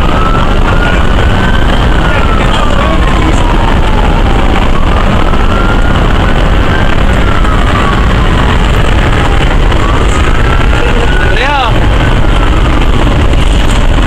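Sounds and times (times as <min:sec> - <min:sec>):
truck engine and road noise: 0:00.0 - 0:14.0
wail siren: 0:00.0 - 0:14.0.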